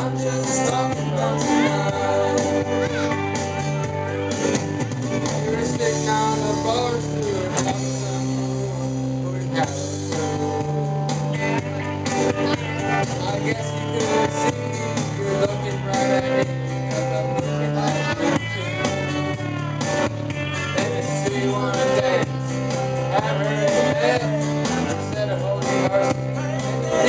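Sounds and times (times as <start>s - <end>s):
person singing into microphone: 0.0s - 4.5s, 5.4s - 27.0s
country-rock backing track: 0.0s - 27.0s.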